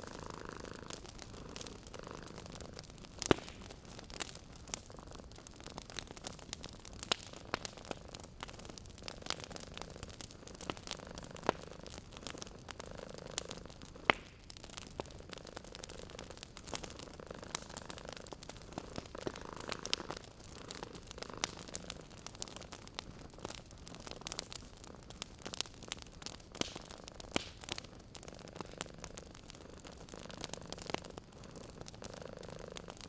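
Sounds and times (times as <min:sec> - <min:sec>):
cat purring: 0:00.0 - 0:06.4, 0:07.4 - 0:25.6, 0:27.7 - 0:33.0
wood fire crackling: 0:00.0 - 0:33.0.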